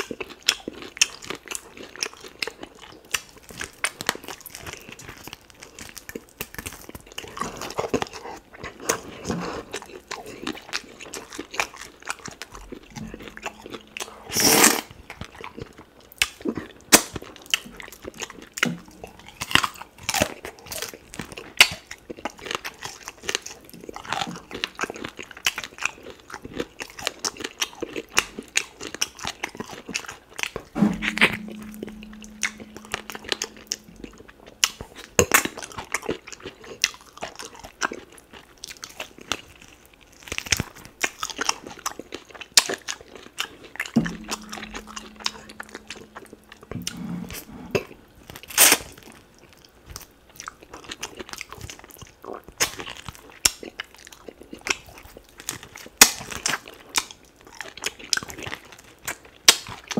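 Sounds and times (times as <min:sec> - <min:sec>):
chewing and crunching: 0:00.0 - 0:13.2, 0:14.0 - 0:30.7, 0:34.5 - 0:44.0, 0:47.8 - 0:59.9.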